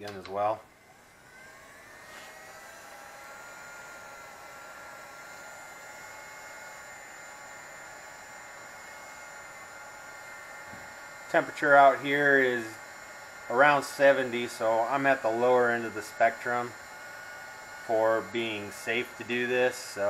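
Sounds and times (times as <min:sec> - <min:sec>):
heat gun blowing with whine: 0:00.0 - 0:20.0.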